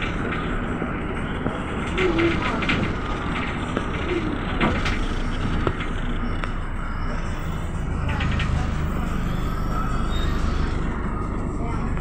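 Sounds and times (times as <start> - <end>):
bus body rattling: 0.0 - 12.0
bus engine running: 0.0 - 12.0
road noise: 0.0 - 12.0.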